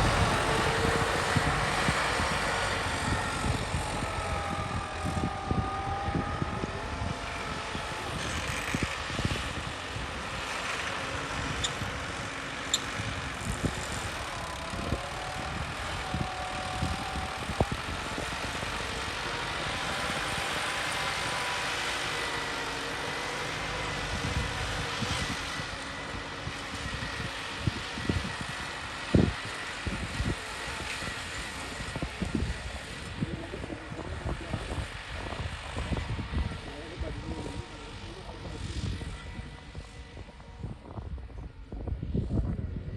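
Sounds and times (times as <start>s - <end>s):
tractor engine running: 0.0s - 40.7s.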